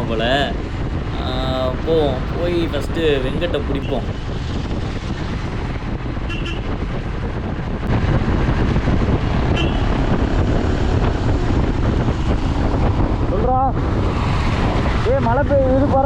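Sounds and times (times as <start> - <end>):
motorcycle engine rumbling: 0.0 - 16.0
wind rushing over microphone: 0.0 - 16.0.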